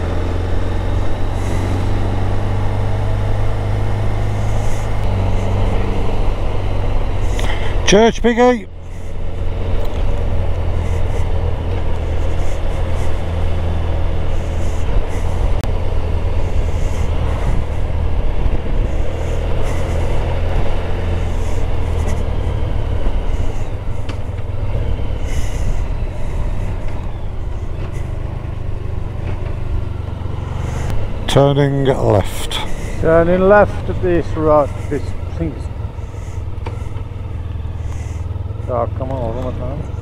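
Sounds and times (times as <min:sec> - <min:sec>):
motorcycle engine hum: 0:00.0 - 0:40.0
wind and road rush: 0:00.0 - 0:40.0.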